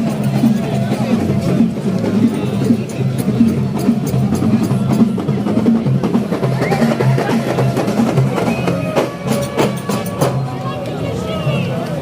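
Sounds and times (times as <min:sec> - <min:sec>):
percussion music with clicking beat: 0:00.0 - 0:11.0.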